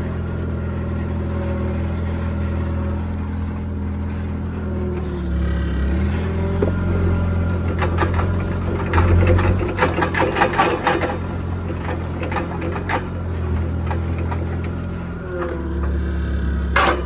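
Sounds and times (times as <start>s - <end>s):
machine engine running: 0.0s - 17.0s.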